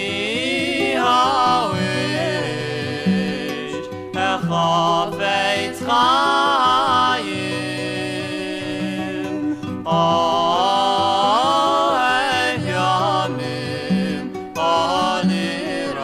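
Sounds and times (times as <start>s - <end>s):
acoustic guitars: 0.0s - 16.0s
men's vocal group singing in harmony: 0.0s - 16.0s.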